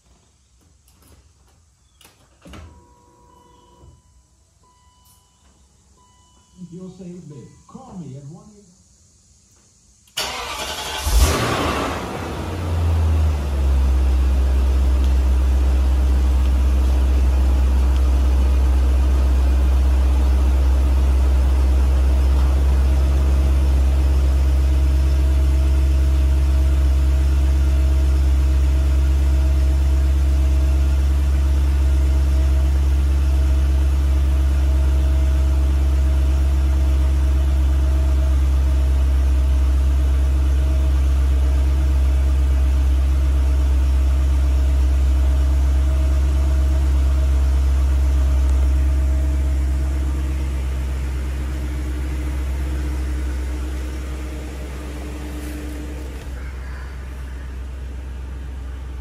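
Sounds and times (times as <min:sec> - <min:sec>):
car engine idling: 0:08.8 - 0:59.0.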